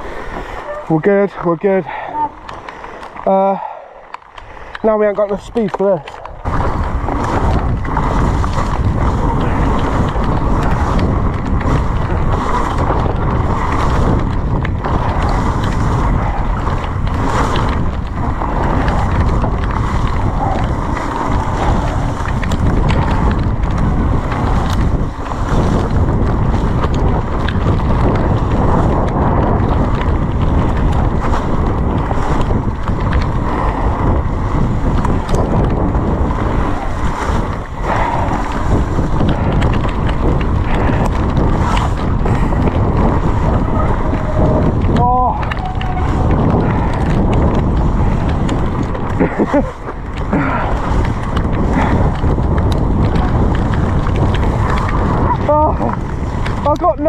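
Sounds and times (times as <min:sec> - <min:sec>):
wind buffeting microphone: 0:00.0 - 0:57.0
bike knocks and rattles: 0:05.4 - 0:57.0.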